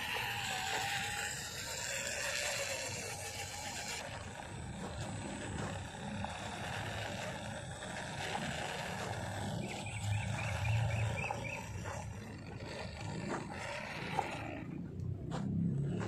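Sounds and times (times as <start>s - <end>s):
electric motor and gears whining: 0.0s - 16.0s.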